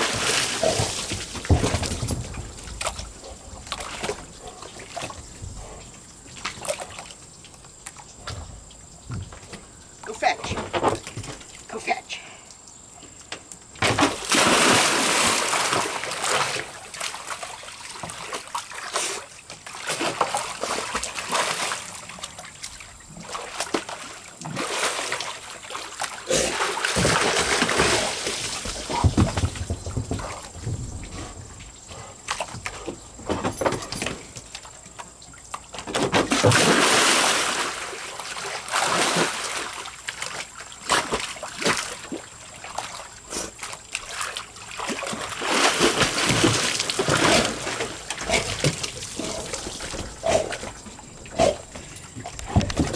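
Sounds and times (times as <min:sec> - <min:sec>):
water splashing and sloshing: 0:00.0 - 0:52.9.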